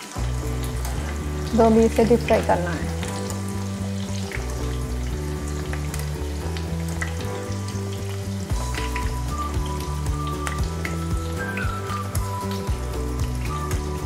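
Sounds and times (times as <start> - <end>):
deep-frying sizzle and crackles: 0.0 - 14.0
soft background music: 0.0 - 14.0.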